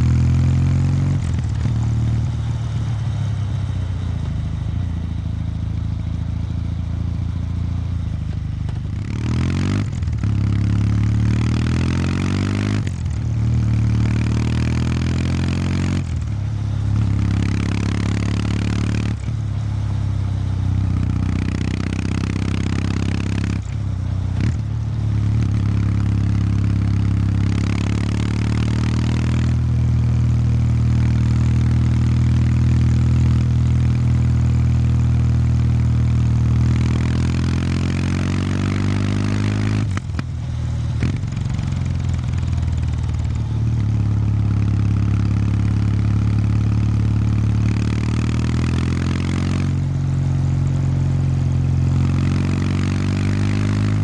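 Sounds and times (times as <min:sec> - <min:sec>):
motorcycle exhaust: 0:00.0 - 0:54.0.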